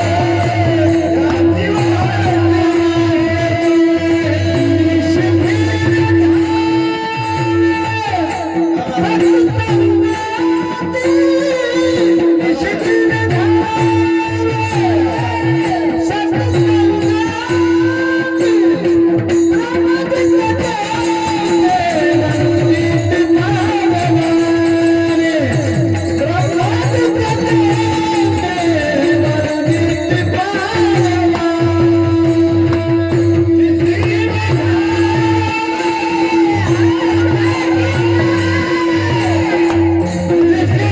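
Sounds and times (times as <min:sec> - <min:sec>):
drum beat: 0:00.0 - 0:40.9
hand cymbals: 0:00.0 - 0:40.9
person singing devotional melody: 0:00.0 - 0:40.9.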